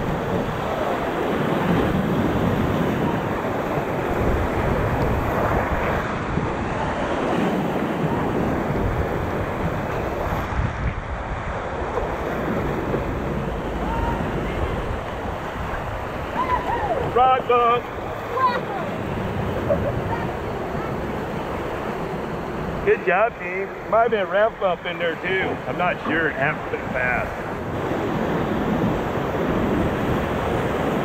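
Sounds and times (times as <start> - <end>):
whitewater rapids rushing: 0.0 - 31.0.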